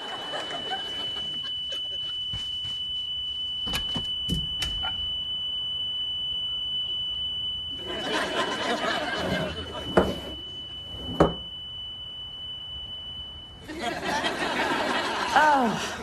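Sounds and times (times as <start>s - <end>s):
smoke alarm tone: 0.0s - 16.0s.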